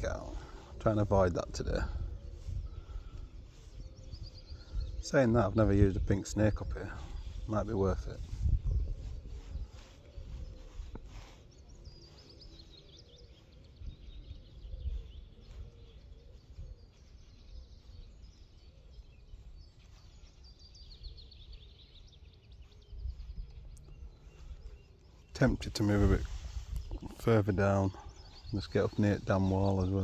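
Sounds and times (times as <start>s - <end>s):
small bird singing: 0.0s - 30.0s
wind rumble on microphone: 0.0s - 30.0s.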